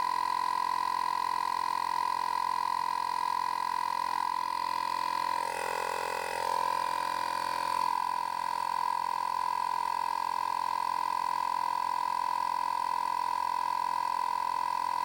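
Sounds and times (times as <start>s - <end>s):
tire inflator compressor whine: 0.0s - 15.0s.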